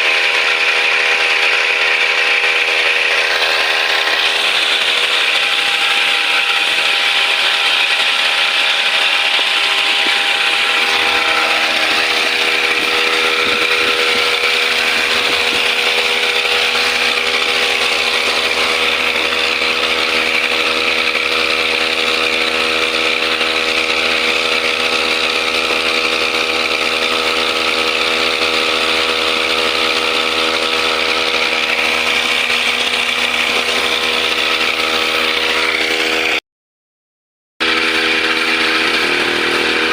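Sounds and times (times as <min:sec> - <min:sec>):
brush cutter engine buzzing: 0:00.0 - 0:36.4, 0:37.6 - 0:39.9.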